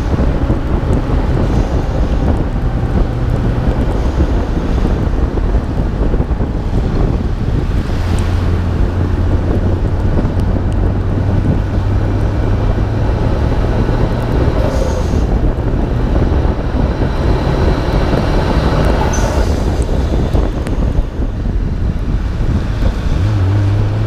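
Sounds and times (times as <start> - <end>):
car engine droning: 0.0 - 24.0
tyres on wet road: 0.0 - 24.0
wind rushing over microphone: 0.0 - 24.0.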